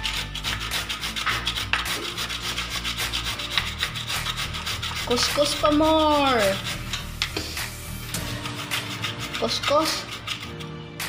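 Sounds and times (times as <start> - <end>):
carrot grating: 0.0 - 7.4, 8.1 - 11.0.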